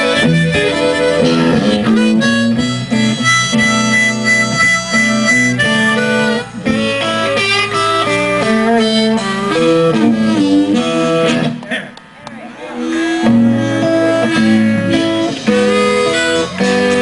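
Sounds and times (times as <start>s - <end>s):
blues harmonica: 0.0s - 11.7s, 12.7s - 17.0s
electric guitar playing blues: 0.0s - 17.0s.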